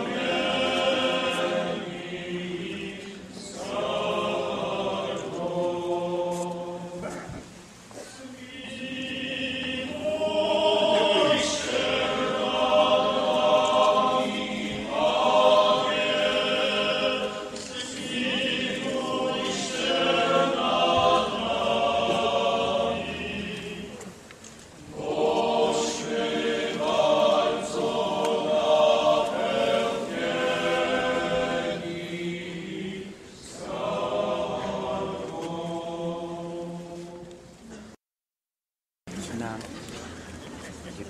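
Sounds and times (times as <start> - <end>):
choir singing: 0.0 - 7.3, 8.2 - 24.2, 24.8 - 37.8.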